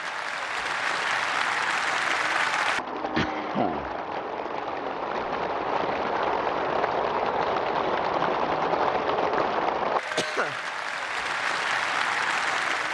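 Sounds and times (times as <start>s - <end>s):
large audience applauding: 0.0s - 3.1s, 3.7s - 12.9s.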